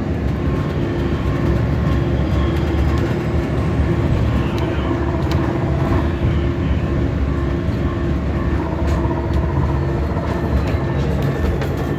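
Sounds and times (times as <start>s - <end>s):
bus rumbling in motion: 0.0s - 11.9s.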